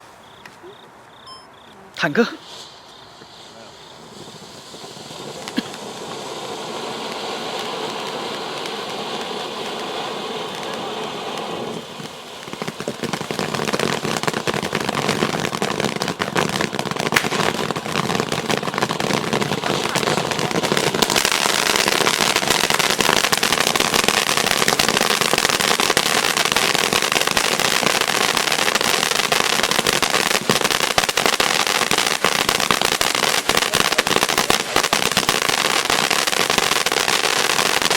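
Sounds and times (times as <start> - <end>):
firework crackling: 2.0 - 37.9
firework fountain hissing: 2.0 - 37.9.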